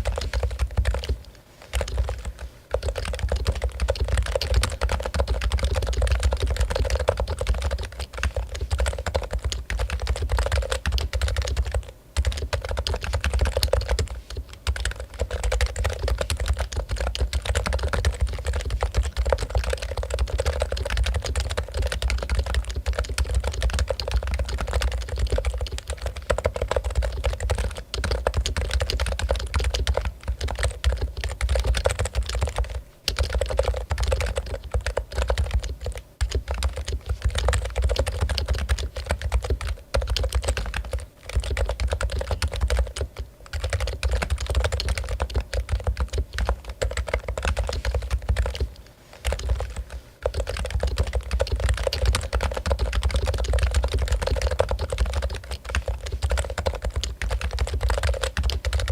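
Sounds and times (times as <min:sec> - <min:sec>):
fast typing on keyboard: 0:00.0 - 0:58.9.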